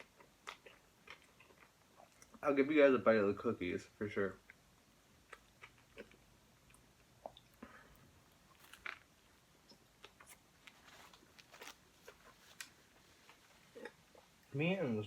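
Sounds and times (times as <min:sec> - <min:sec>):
close-up chewing: 0:00.0 - 0:02.4, 0:04.4 - 0:14.5.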